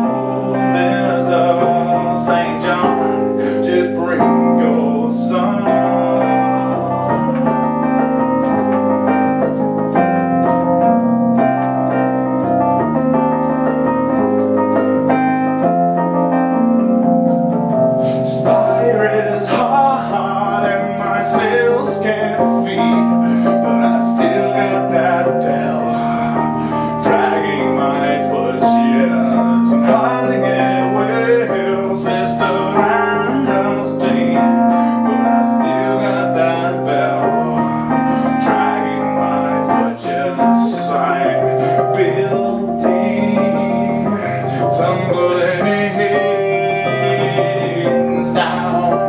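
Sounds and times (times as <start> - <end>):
electric piano chords: 0.0 - 49.0.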